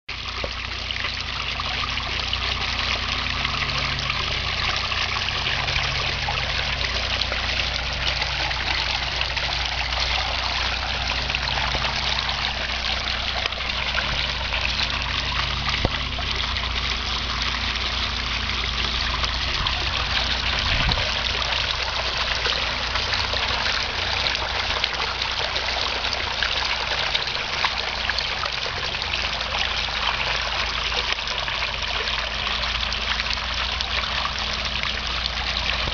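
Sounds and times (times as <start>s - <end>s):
fountain water trickling and splashing: 0.1s - 35.9s.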